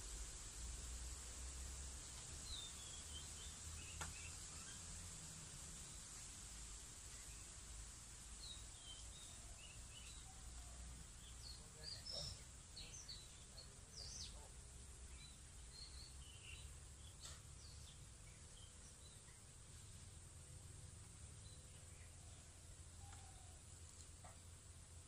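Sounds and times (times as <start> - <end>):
small birds chirping: 0.0 - 25.0
steady high hiss: 0.0 - 25.0.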